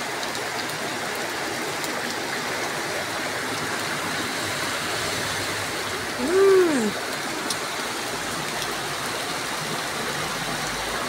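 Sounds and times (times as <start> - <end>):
heavy rain falling: 0.0 - 11.0
runoff water rushing down street: 0.0 - 11.0.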